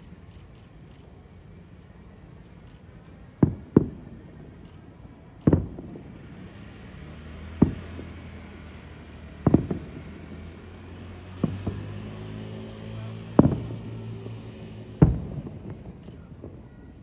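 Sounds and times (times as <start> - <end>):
fireworks booming: 3.1 - 17.0.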